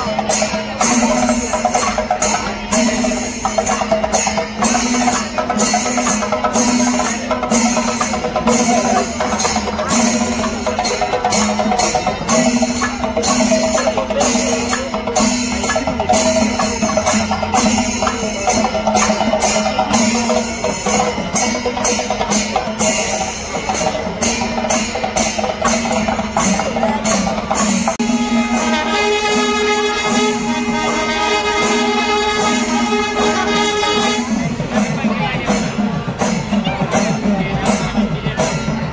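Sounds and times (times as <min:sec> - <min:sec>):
drum and cymbal strikes: 0:00.0 - 0:38.9.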